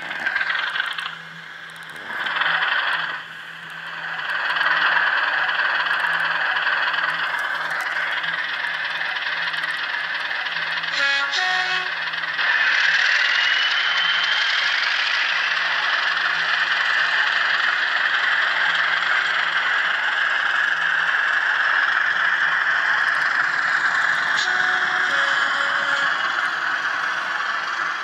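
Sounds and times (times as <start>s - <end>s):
thin rasping model engine noise: 0.0s - 28.0s.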